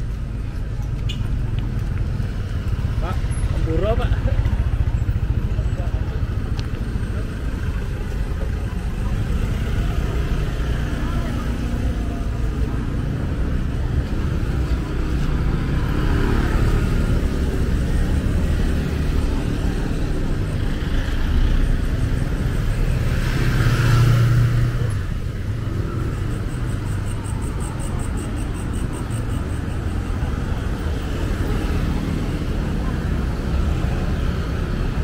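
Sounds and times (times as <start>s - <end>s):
street traffic: 0.0s - 35.0s.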